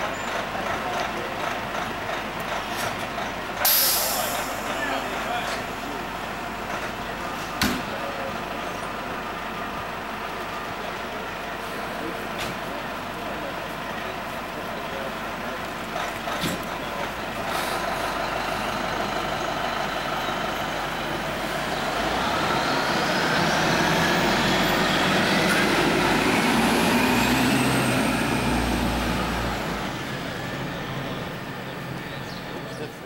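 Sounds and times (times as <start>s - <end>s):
fire engine rumbling: 0.0s - 33.0s.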